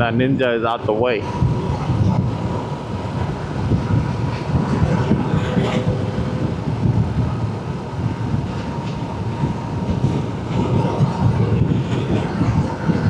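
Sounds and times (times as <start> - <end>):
faint steady whine: 0.0 - 13.0
wind rushing over microphone: 0.0 - 13.0.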